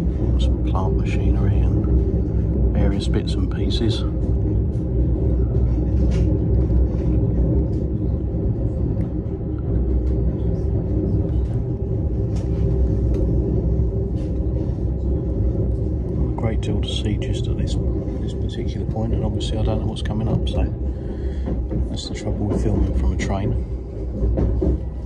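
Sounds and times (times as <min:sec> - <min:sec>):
train rumbling inside carriage: 0:00.0 - 0:25.0.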